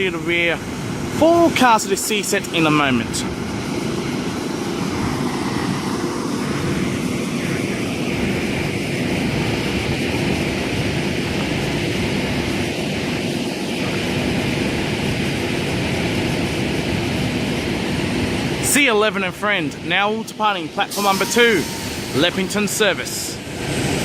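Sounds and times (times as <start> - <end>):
standing train droning hum: 0.0 - 24.0.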